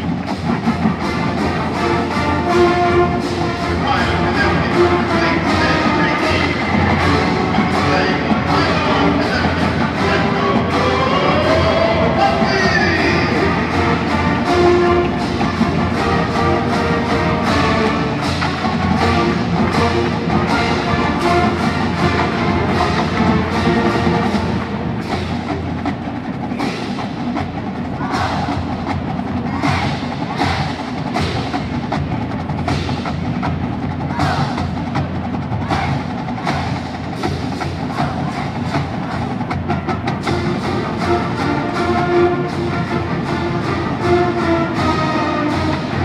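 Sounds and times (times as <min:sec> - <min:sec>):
brass chords: 0:00.0 - 0:28.7, 0:35.5 - 0:46.0
marching drums and percussion: 0:00.0 - 0:46.0.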